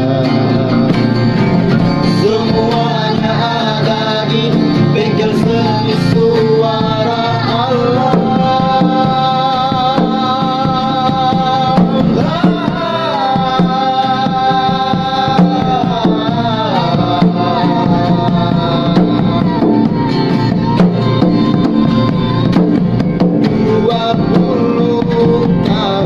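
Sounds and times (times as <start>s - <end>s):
slow song with sliding melody: 0.0s - 26.0s
steady drum and percussion beat: 0.0s - 26.0s.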